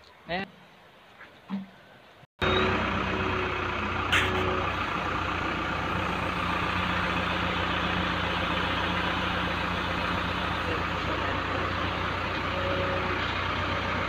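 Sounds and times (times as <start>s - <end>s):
diesel engine running: 2.4s - 14.0s.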